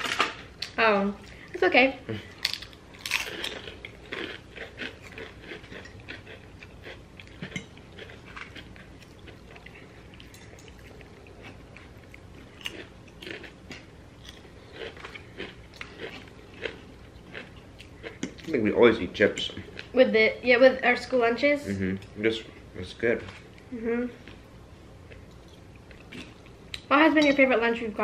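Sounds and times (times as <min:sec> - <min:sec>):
chewing and crunching food: 0:00.0 - 0:18.7, 0:23.1 - 0:26.9.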